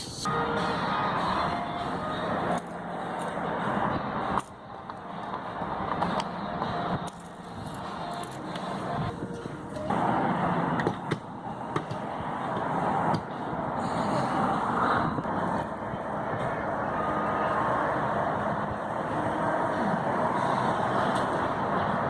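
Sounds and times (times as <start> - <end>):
passing traffic rush: 0.0 - 22.0.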